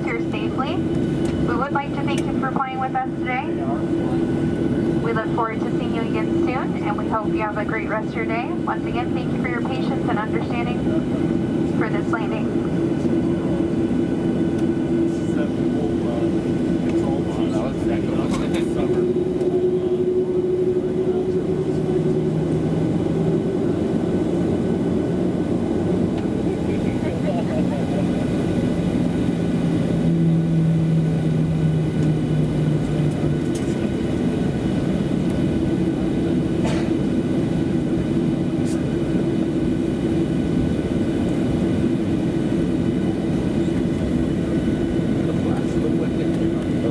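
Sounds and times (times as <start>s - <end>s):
constant mid-pitched hum: 0.0s - 46.9s
jet engines heard from cabin: 0.0s - 46.9s
steady engine tone: 0.0s - 46.9s.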